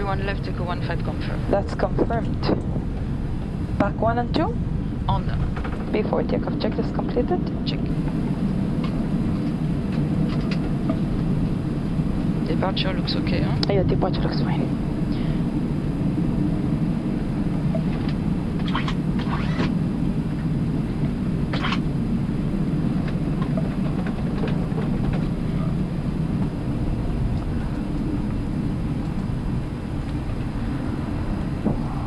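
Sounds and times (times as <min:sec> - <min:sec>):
low rumble in aircraft cockpit: 0:00.0 - 0:32.0.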